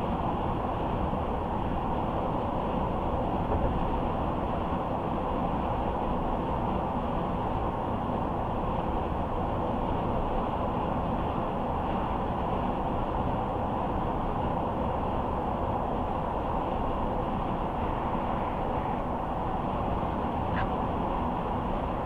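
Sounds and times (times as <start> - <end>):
tyre and road noise: 0.0 - 22.0.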